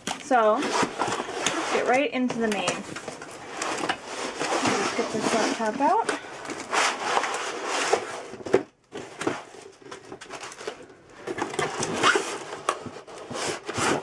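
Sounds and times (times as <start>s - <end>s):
cardboard box scraping: 0.3s - 9.6s, 11.4s - 14.0s.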